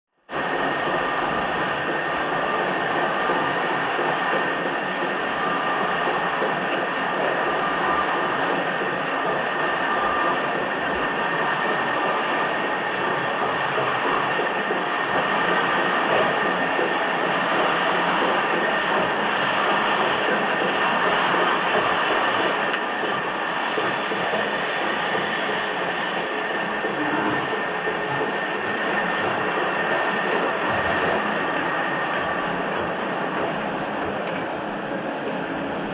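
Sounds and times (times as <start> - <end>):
lathe whirring with high whine: 0.2 - 35.9.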